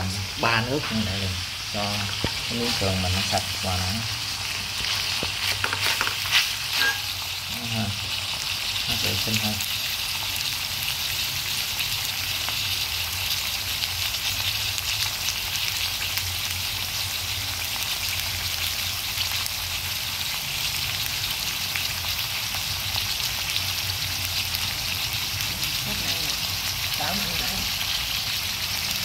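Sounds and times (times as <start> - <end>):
meat sizzling in a pan: 0.0 - 29.0
crackling oil spatter: 1.9 - 29.0.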